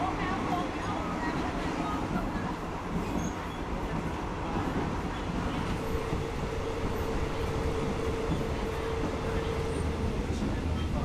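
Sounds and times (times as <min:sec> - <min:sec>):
train wheels rumbling and rattling: 0:00.1 - 0:11.0.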